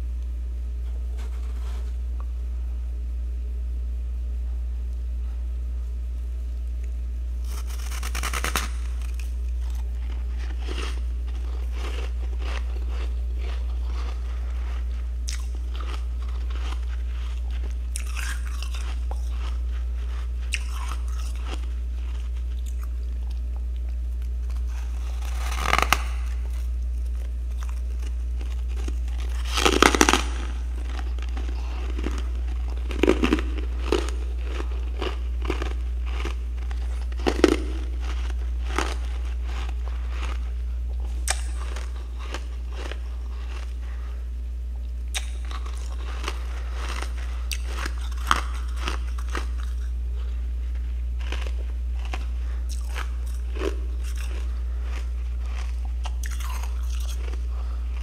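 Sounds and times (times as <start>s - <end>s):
steady low hum: 0.0s - 58.0s
frost crunching being chewed: 0.9s - 2.3s, 6.6s - 58.0s.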